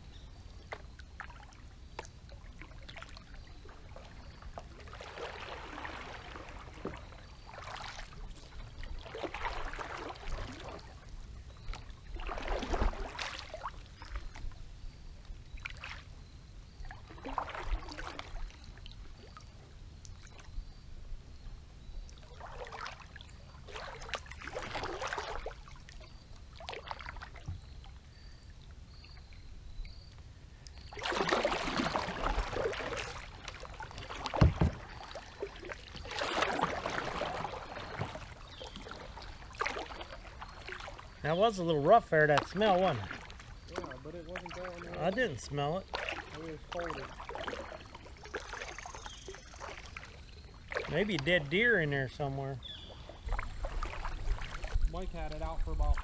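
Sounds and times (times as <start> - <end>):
paddle swishing through water: 0.0 - 30.0, 30.8 - 56.0.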